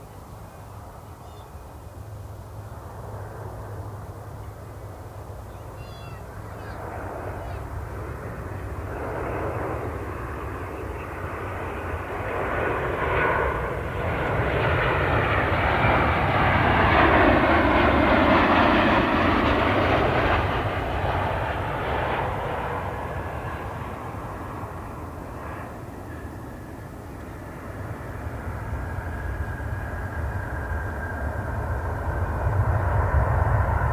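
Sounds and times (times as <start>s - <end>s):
jet airliner engine noise: 0.0s - 33.9s.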